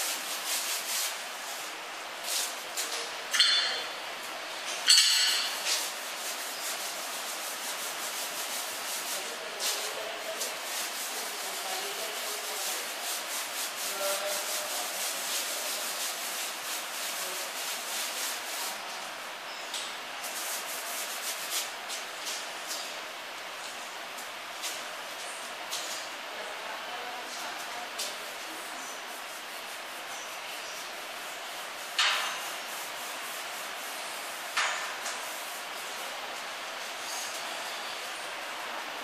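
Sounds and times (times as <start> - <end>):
paintbrush scrubbing on wall: 0.0 - 4.4, 5.2 - 19.3, 20.2 - 22.9, 27.0 - 39.0.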